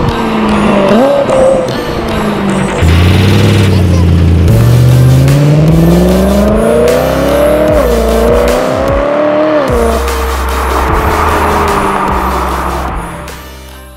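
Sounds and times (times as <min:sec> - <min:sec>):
car engine accelerating hard: 0:00.0 - 0:13.4.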